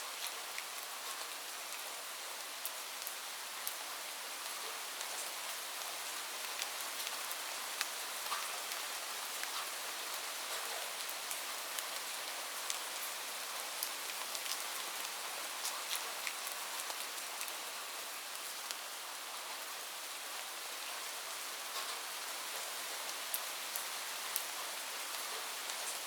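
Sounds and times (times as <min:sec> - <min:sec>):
light rain falling: 0:00.0 - 0:26.0
raindrops ticking on a surface: 0:00.1 - 0:19.6, 0:21.6 - 0:26.0.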